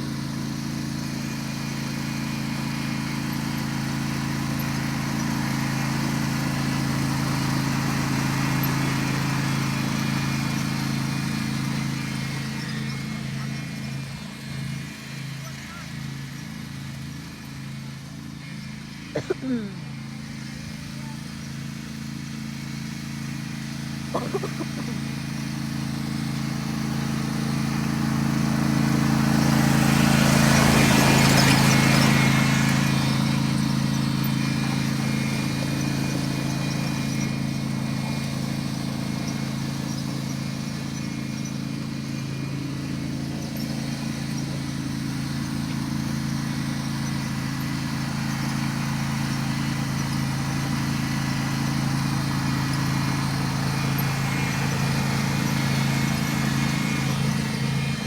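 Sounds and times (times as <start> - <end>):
riding lawn mower engine running: 0.0 - 58.0.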